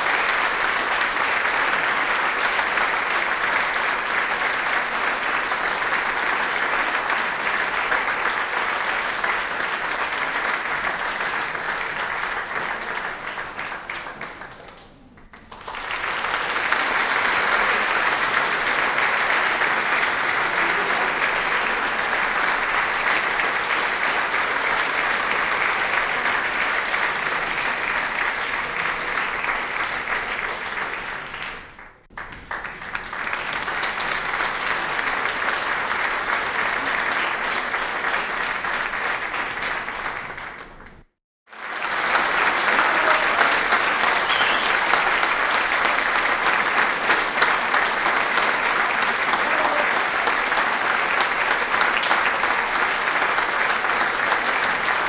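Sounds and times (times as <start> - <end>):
audience applause: 0.0 - 55.0.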